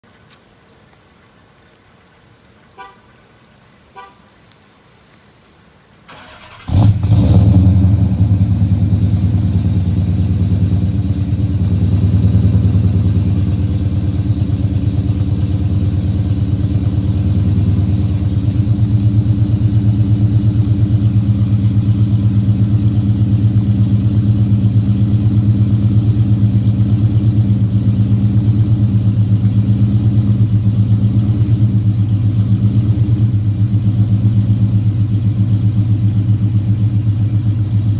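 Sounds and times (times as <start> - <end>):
car engine starting and idling: 6.1 - 37.9.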